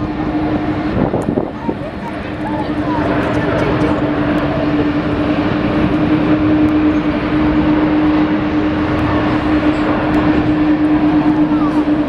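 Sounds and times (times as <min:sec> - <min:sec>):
jet engines running: 0:00.0 - 0:12.0
wind buffeting microphone: 0:00.0 - 0:12.0.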